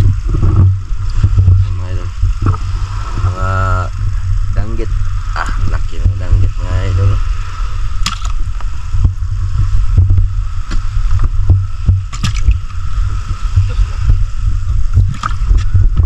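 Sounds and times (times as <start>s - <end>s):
boat engine rumbling: 0.0s - 16.0s
faint steady whine: 0.0s - 16.0s.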